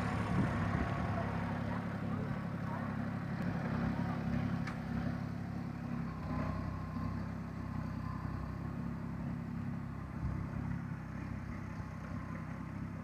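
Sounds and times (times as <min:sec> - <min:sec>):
tractor engine under load: 0:00.0 - 0:13.0.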